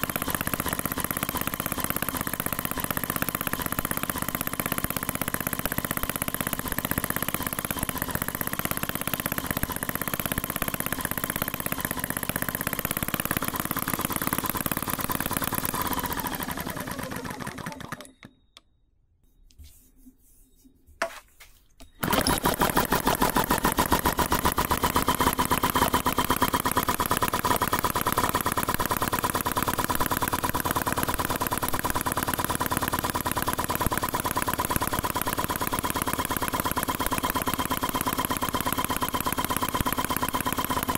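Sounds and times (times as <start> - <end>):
model engine running: 0.0 - 18.3, 22.0 - 40.9.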